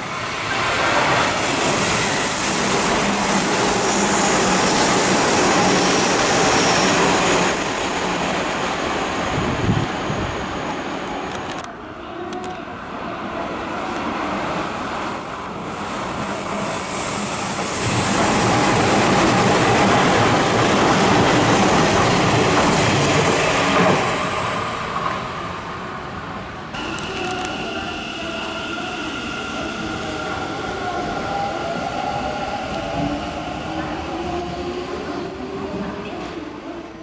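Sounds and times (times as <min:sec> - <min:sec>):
electric train passing at speed: 0:00.0 - 0:37.0
train humming at platform: 0:00.0 - 0:37.0.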